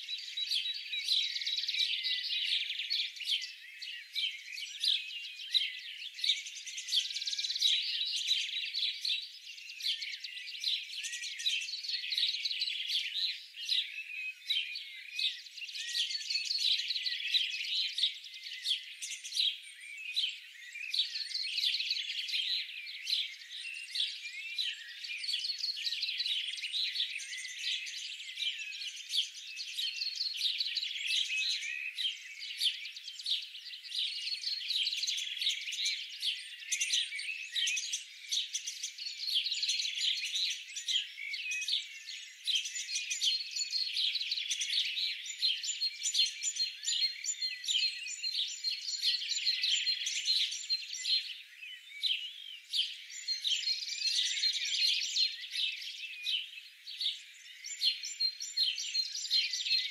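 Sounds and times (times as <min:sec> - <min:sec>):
many small birds chirping: 0:00.0 - 0:59.9.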